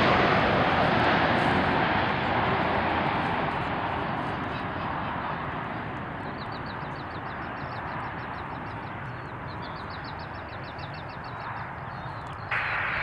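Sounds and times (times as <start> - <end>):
airliner jet engines: 0.0 - 13.0.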